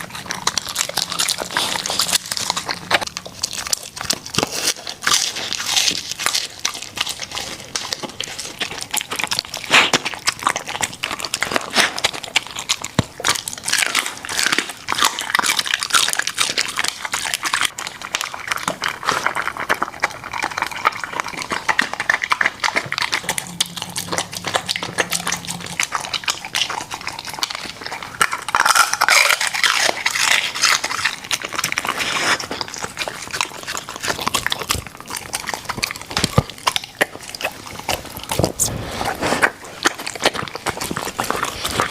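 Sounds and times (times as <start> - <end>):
dog chewing and smacking: 0.0 - 41.9.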